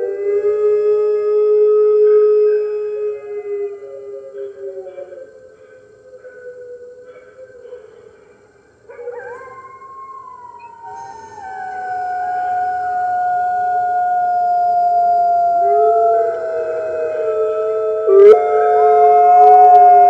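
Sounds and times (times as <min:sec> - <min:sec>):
wolves howling: 0:00.0 - 0:20.0.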